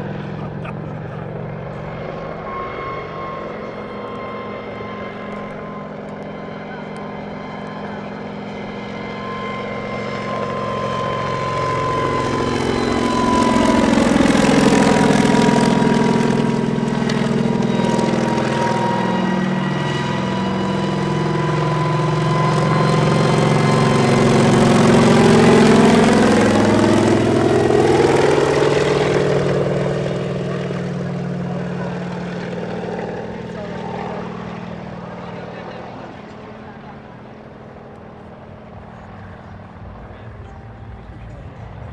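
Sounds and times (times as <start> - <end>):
helicopter flying overhead: 0.0 - 41.9.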